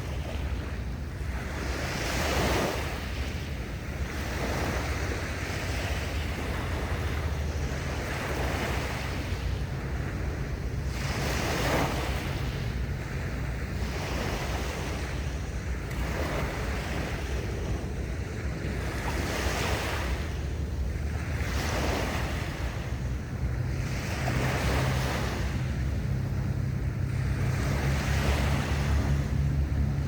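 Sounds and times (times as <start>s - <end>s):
sea waves breaking: 0.0s - 30.0s
wind rumble on microphone: 0.0s - 30.0s.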